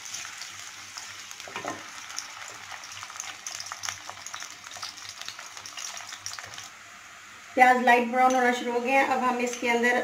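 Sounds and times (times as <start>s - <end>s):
onion sizzling in hot oil: 0.0s - 9.9s.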